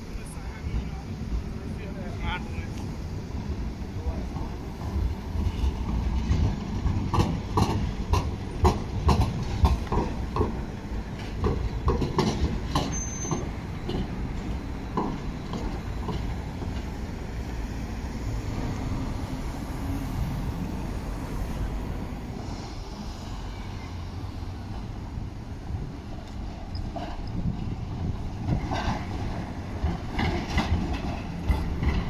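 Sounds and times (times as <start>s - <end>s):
tram rumble: 0.0s - 32.0s
tram wheels clattering: 0.0s - 32.0s.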